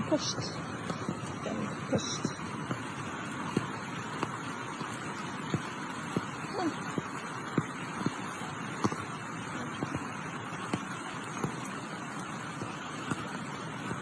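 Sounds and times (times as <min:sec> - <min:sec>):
rushing floodwater: 0:00.0 - 0:14.0.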